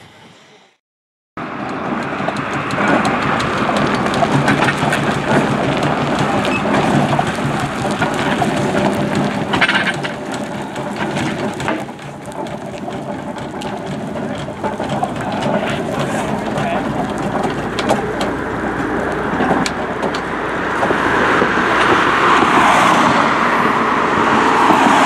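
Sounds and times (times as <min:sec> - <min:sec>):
steam traction engine on gravel: 0:01.4 - 0:25.0.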